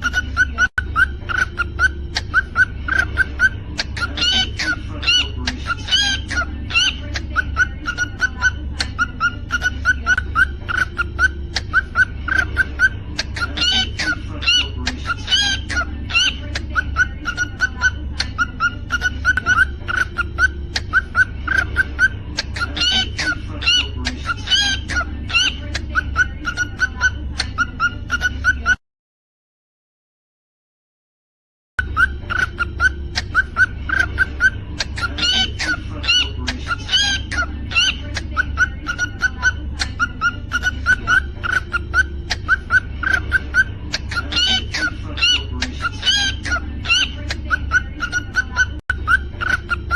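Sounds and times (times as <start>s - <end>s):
steady low hum: 0.0s - 28.5s, 31.8s - 49.9s
cockatiel chirping: 0.0s - 28.8s, 31.8s - 49.9s.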